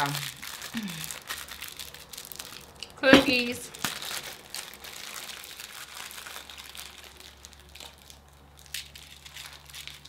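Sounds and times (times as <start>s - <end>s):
cellophane wrappers crinkling: 0.0s - 10.0s
sharp crackles: 0.0s - 10.0s.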